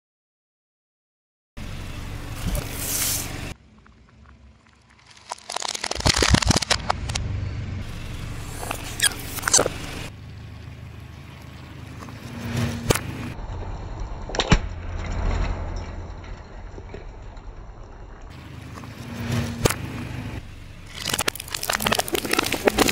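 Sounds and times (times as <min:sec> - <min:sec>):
car low rumble: 0:01.6 - 0:05.2, 0:05.9 - 0:22.9.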